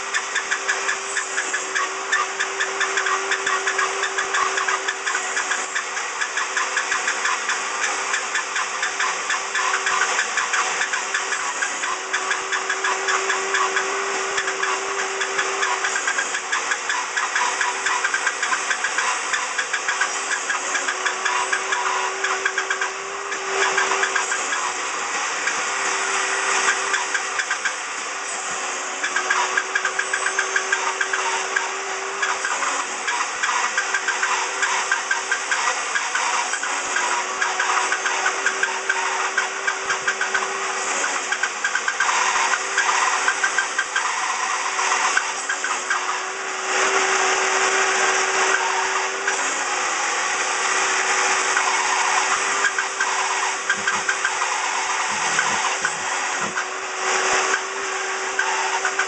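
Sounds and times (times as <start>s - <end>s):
saw cutting wood: 0.0s - 59.0s
table saw motor hum: 0.0s - 59.0s.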